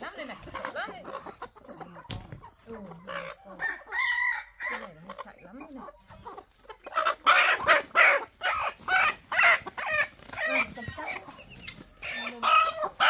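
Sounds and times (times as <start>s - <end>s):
hens clucking: 0.0s - 13.0s
hens squawking loudly: 0.0s - 13.0s.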